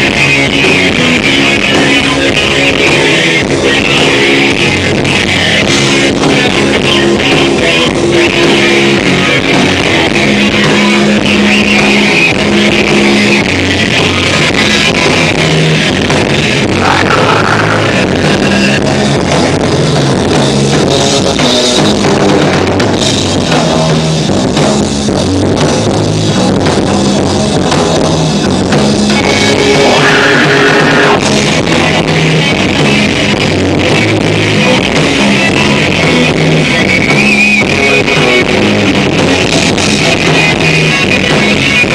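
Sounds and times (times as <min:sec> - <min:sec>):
electric guitar: 0:00.0 - 0:41.9
pounding drum kit: 0:00.0 - 0:41.9.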